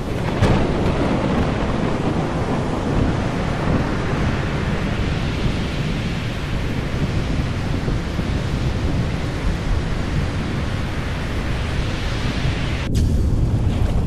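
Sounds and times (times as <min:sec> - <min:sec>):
loud steady rushing noise: 0:00.0 - 0:14.0.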